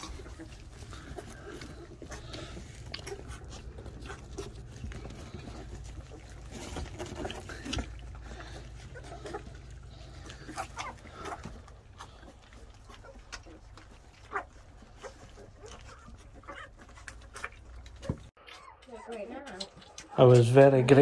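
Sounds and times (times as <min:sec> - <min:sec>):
puppies lapping and slurping food: 0:00.0 - 0:21.0.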